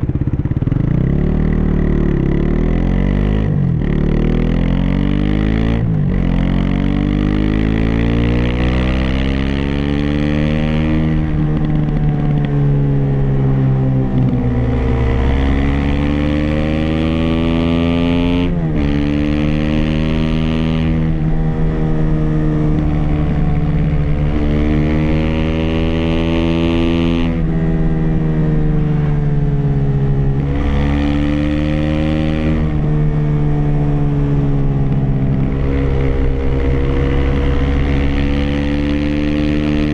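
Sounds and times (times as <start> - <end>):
muffled motorcycle engine: 0.0 - 39.9.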